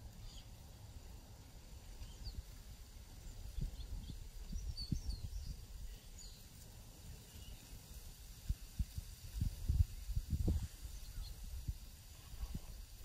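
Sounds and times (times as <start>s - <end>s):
songbirds chirping faintly: 0.0s - 13.0s.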